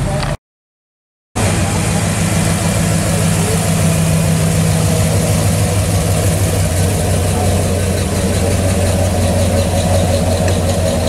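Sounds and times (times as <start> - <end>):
pickup truck engine idling: 1.4 - 11.0.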